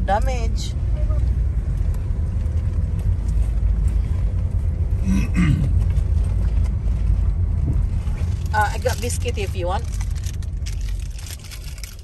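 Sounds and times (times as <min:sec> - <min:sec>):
car driving slowly rumble: 0:00.0 - 0:12.0.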